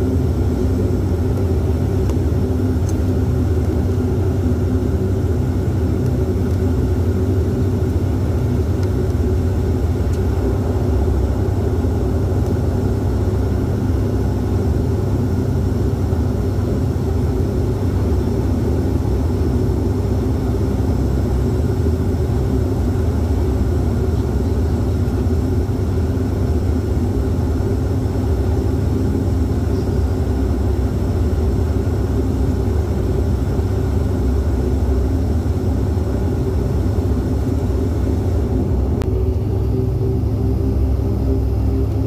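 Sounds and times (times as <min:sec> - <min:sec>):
turboprop engines droning: 0:00.0 - 0:42.0.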